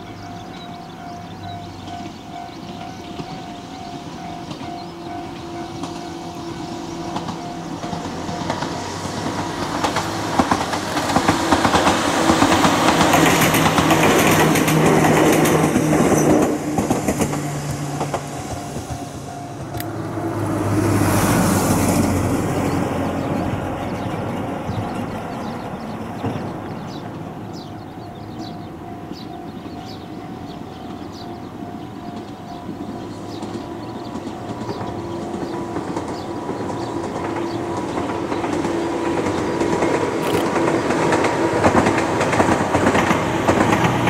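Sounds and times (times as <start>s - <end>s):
electric train passing: 0.0s - 44.0s
wheels clacking over rail joints: 0.0s - 44.0s.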